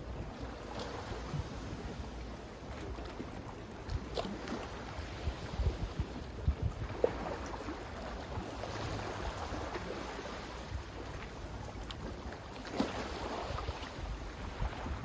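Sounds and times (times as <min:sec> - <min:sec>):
sea water washing and surging: 0:00.0 - 0:15.0
wind rumble on microphone: 0:00.0 - 0:15.0.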